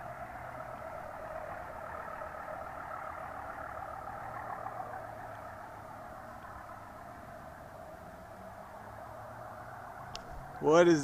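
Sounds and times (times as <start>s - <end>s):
metallic droning from the sky: 0.0s - 11.0s.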